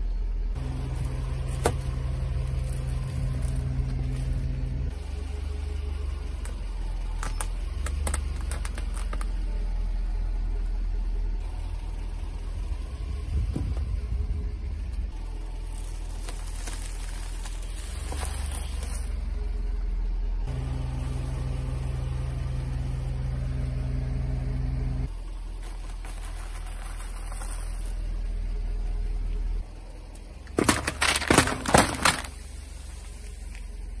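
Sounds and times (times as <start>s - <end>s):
car engine rumbling: 0.0s - 34.0s
crunching under a tyre: 0.5s - 23.4s, 25.0s - 34.0s.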